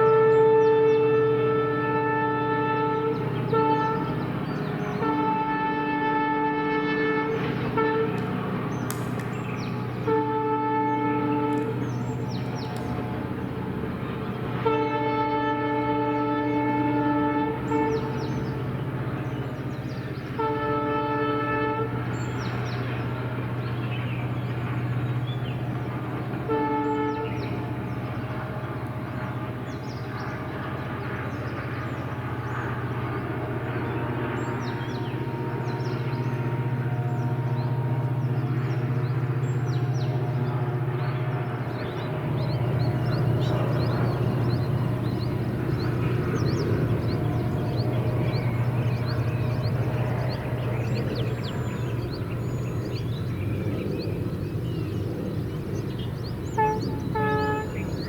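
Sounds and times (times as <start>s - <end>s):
diesel locomotive engine running: 0.0s - 58.0s
locomotive air horn blasts: 0.0s - 58.0s.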